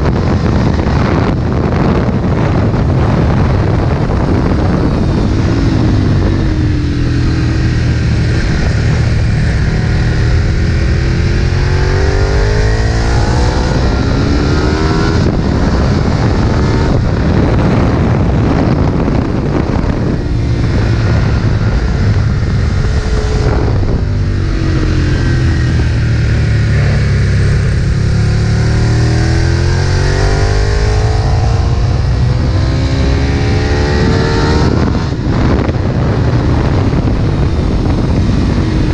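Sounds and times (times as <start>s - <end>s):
motorcycle engine at full throttle: 0.0s - 38.9s
rush of air and road noise: 0.0s - 38.9s.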